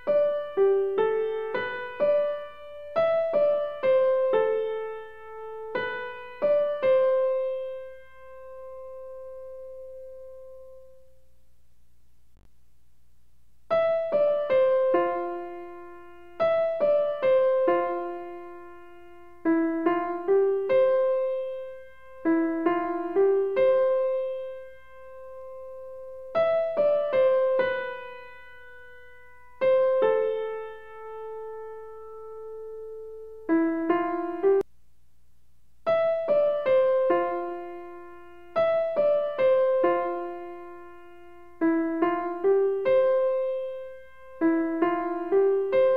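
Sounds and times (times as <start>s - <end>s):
slow keyboard melody: 0.0s - 11.2s, 13.7s - 34.7s, 35.9s - 45.9s.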